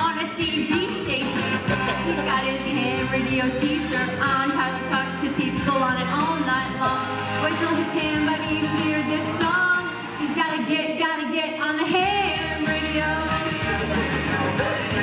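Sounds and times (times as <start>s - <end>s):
backing music with bass line: 0.0s - 10.4s, 11.8s - 15.0s
woman singing into microphone: 0.0s - 13.7s.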